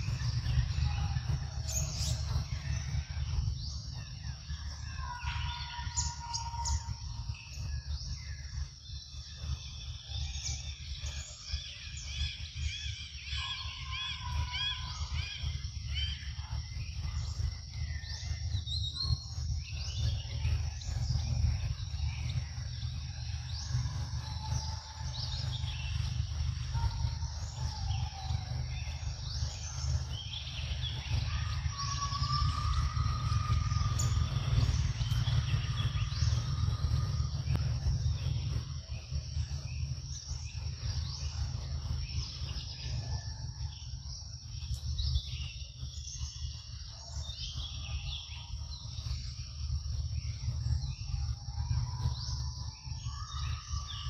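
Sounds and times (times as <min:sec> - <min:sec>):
birds chirping: 0:00.0 - 0:54.0
continuous low rumble: 0:00.0 - 0:54.0
high insect drone: 0:00.0 - 0:54.0.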